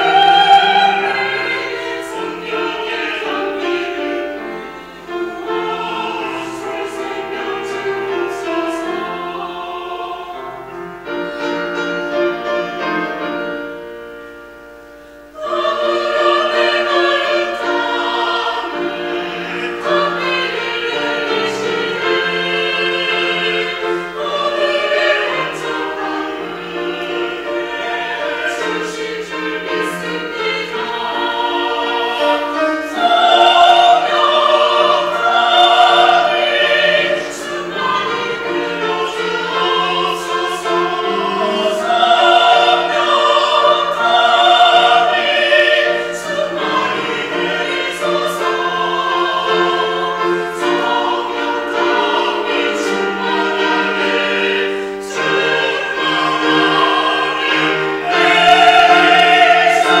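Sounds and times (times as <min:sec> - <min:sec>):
church choir singing: 0:00.0 - 1:00.0.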